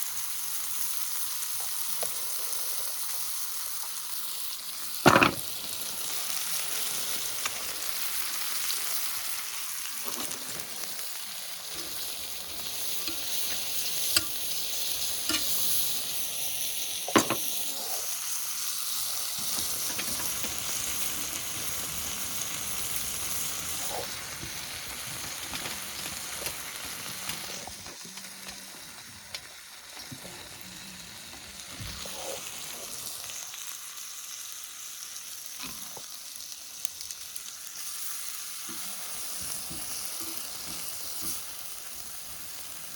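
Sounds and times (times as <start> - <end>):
meat sizzling in a pan: 0.0 - 42.9.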